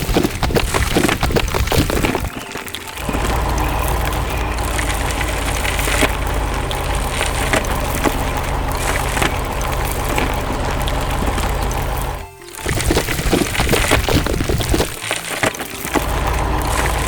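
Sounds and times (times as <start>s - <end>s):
excavator engine running: 0.0s - 17.0s
wood cracking and splintering: 0.0s - 17.0s.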